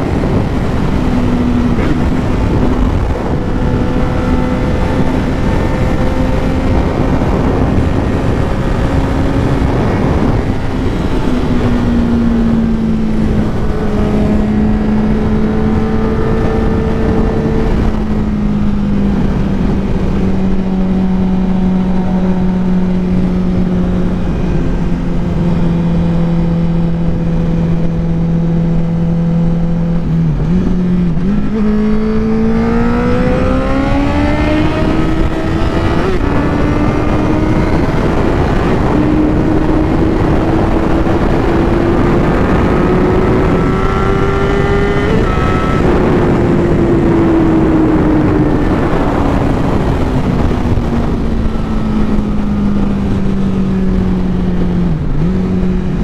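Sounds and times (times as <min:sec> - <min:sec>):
motorcycle engine at speed: 0:00.0 - 0:56.0
wind rushing: 0:00.0 - 0:56.0.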